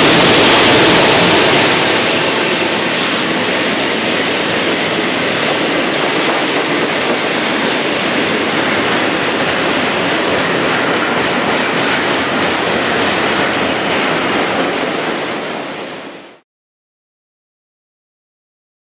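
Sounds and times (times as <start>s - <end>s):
train wheels on rails: 0.0s - 16.4s.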